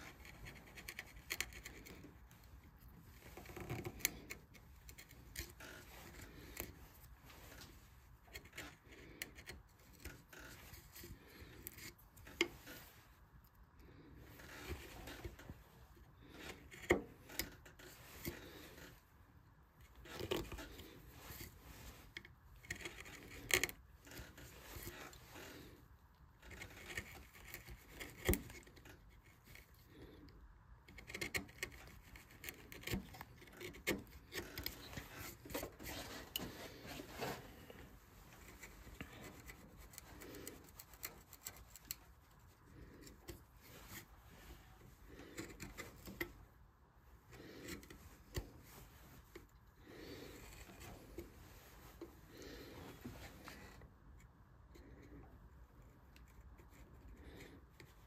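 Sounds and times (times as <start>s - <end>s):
carving tool scraping wood: 0.0s - 58.0s.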